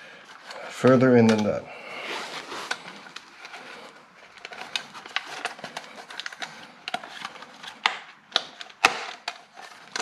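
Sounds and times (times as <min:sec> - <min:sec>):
plastic and rubber clicks and scrapes: 0:00.1 - 0:10.0.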